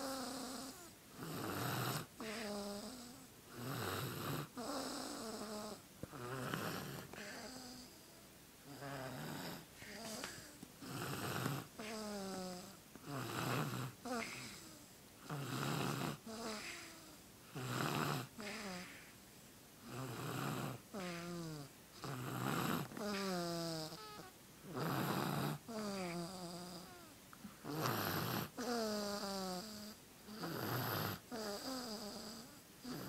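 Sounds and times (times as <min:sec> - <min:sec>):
baby snoring: 0:00.0 - 0:19.1, 0:19.8 - 0:33.0.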